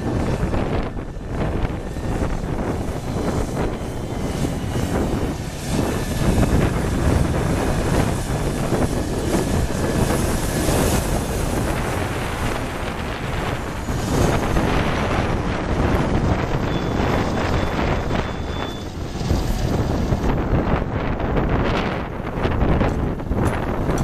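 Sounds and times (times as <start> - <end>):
diesel engine rumbling under load: 0.0 - 24.0.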